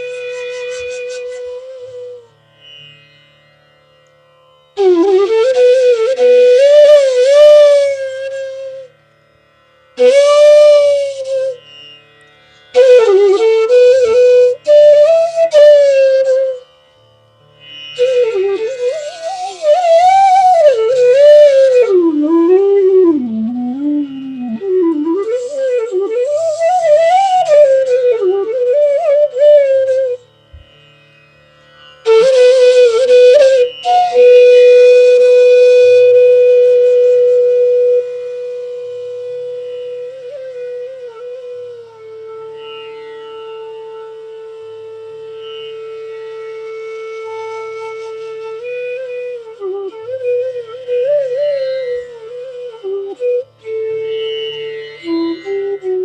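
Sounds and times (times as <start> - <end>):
bamboo flute melody: 0.0 - 3.1, 3.8 - 56.0.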